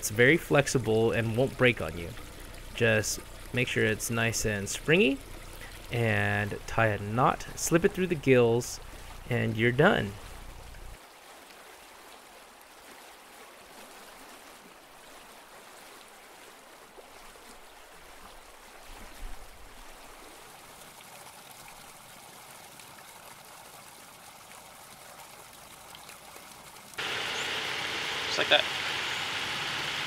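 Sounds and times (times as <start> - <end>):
water trickling: 0.0 - 30.0.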